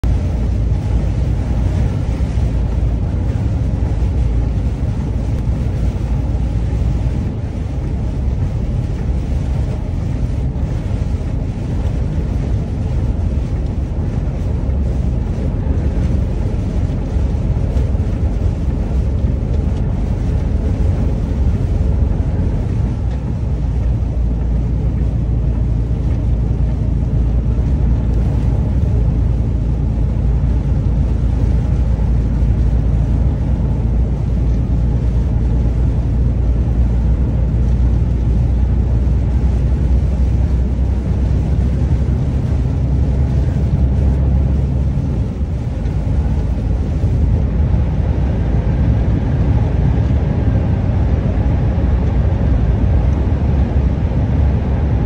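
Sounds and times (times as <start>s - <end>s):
truck engine rumble: 0.0s - 55.0s
tyres on wet road: 0.0s - 55.0s.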